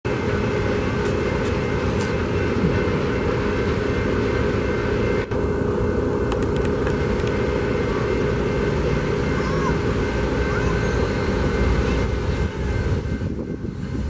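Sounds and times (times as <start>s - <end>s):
freight train locomotive rumble: 0.0s - 14.0s
steady hum: 0.1s - 14.0s.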